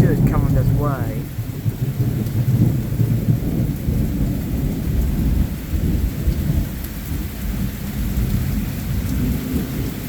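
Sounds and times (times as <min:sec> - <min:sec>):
heavy rain: 0:00.0 - 0:10.0
rumble of thunder: 0:00.0 - 0:10.0.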